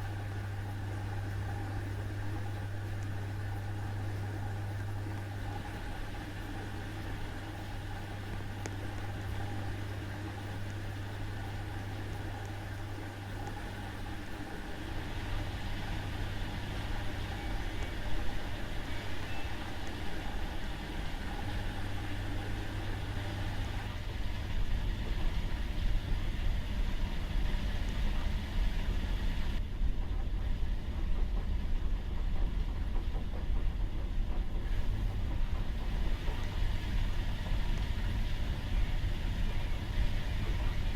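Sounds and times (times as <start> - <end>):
washing machine running: 0.0 - 40.9.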